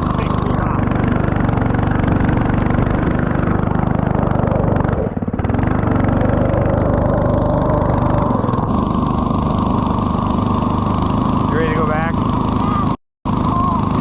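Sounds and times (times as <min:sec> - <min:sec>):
vehicle engine under load: 0:00.0 - 0:14.0.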